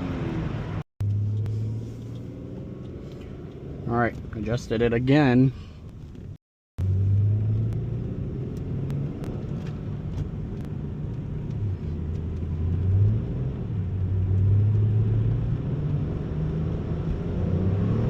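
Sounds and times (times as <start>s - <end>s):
car engine drone from inside: 0.0s - 18.0s.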